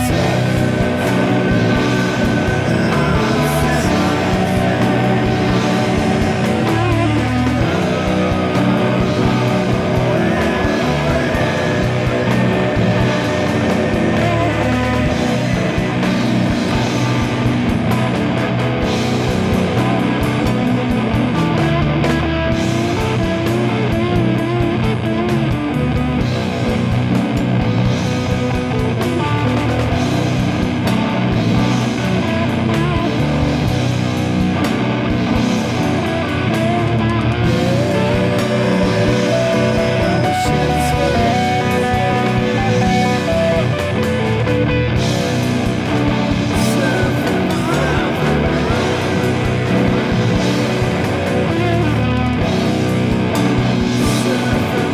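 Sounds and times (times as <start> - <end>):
doom metal song: 0.0 - 54.9
drums: 0.0 - 54.9
electric guitars: 0.0 - 54.9.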